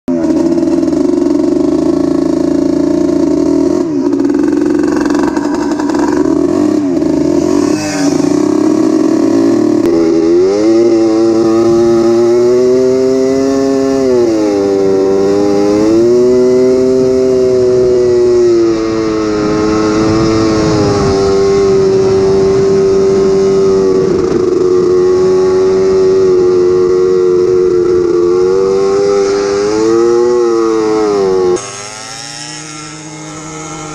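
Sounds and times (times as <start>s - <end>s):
atv engine running: 0.1s - 33.9s.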